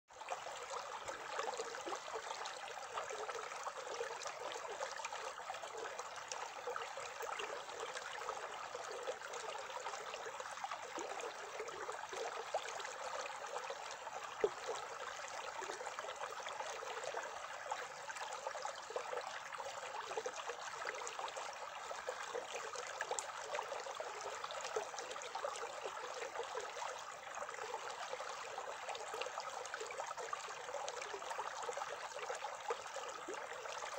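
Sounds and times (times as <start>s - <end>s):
stream babbling: 0.2s - 33.9s.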